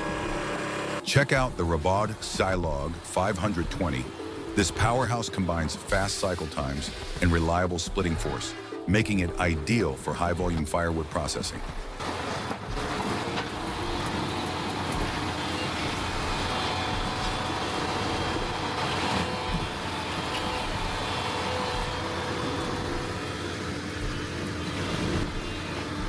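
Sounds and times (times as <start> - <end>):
machine engine droning: 0.0 - 9.7, 10.3 - 26.0.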